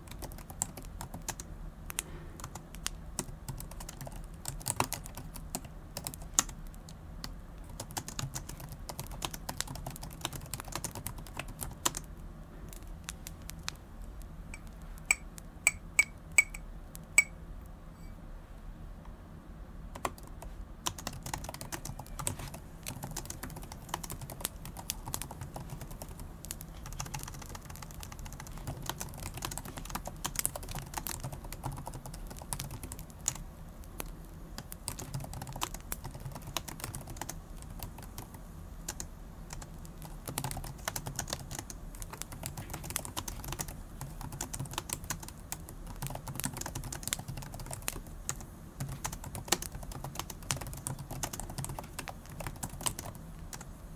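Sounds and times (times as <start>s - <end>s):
laptop keyboard typing: 0.0s - 12.1s, 19.9s - 53.7s.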